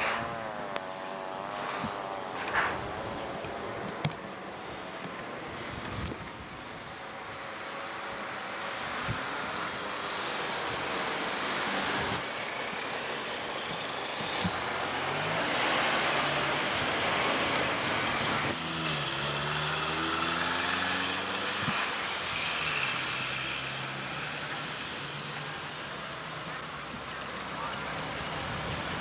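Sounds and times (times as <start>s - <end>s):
rising whine: 0.0s - 25.7s
road hiss: 0.0s - 29.0s
vehicles passing on street: 0.0s - 29.0s.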